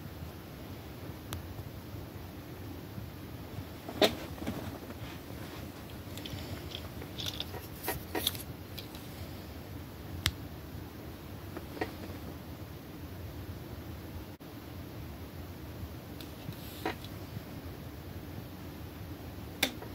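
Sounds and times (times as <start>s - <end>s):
low room noise: 0.0s - 19.9s.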